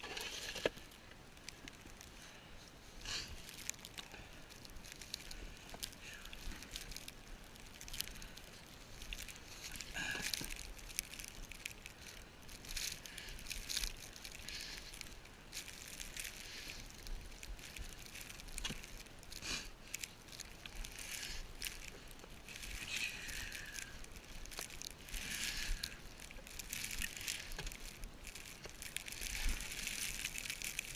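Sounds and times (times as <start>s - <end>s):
footsteps crunching in snow: 1.9s - 30.9s.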